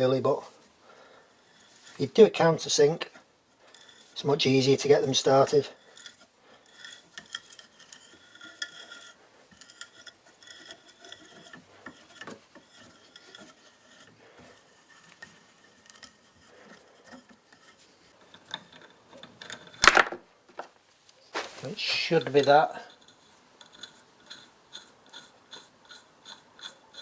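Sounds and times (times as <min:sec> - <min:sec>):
metal scraping and squeaking: 0:01.4 - 0:19.8, 0:21.3 - 0:27.0.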